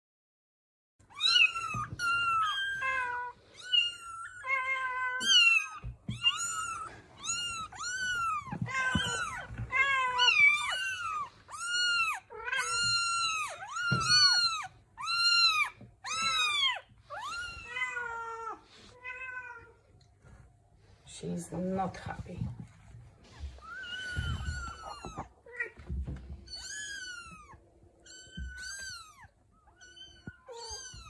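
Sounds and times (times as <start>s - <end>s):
kittens mewing: 1.1s - 19.8s, 23.3s - 31.0s.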